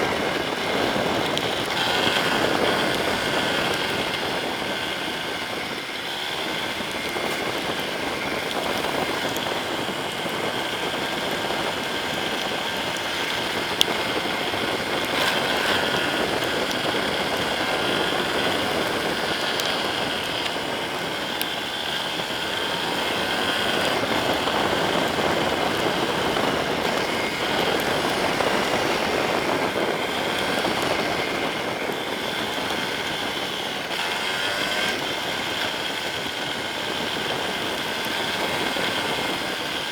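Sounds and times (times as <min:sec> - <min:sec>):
motorcycle engine running: 0:00.0 - 0:39.9
wet road noise: 0:00.0 - 0:39.9
wind rush: 0:00.0 - 0:39.9.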